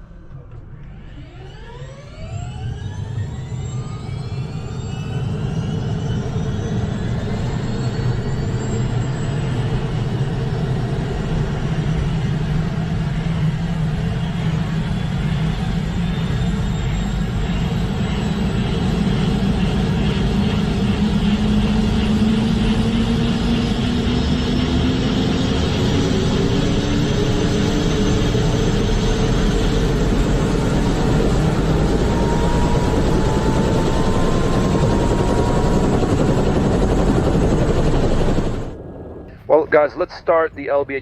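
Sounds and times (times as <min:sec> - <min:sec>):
helicopter engine spooling up: 0:00.0 - 0:41.0.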